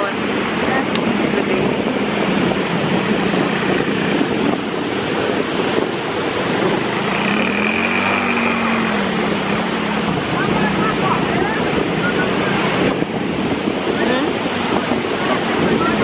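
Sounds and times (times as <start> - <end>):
surf washing on beach: 0.0 - 16.0
wind rushing over microphone: 0.0 - 16.0.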